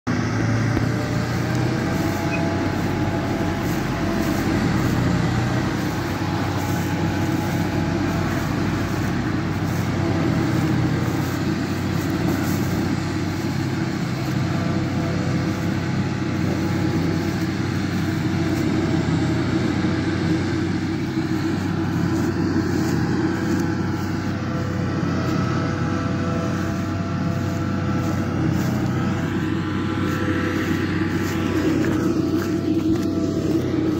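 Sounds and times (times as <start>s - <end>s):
forage harvester droning: 0.0s - 33.9s
tractor engine: 0.0s - 33.9s.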